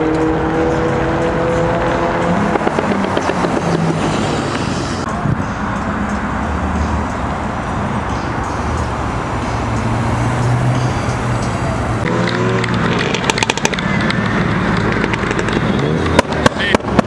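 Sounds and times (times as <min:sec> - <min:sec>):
cars driving off: 0:00.0 - 0:17.0.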